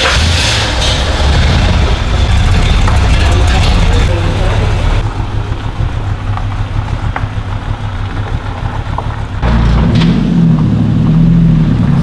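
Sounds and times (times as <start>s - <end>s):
car engine drone: 0.0s - 12.0s
car engine idling: 0.0s - 12.0s.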